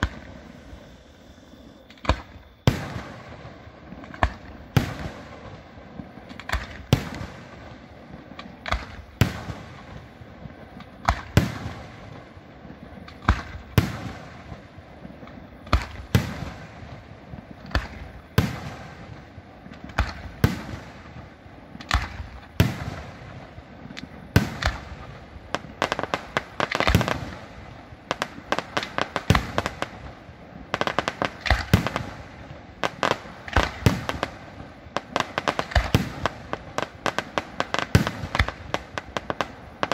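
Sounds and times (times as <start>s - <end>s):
firework shells bursting: 0.0s - 1.0s, 1.6s - 39.9s.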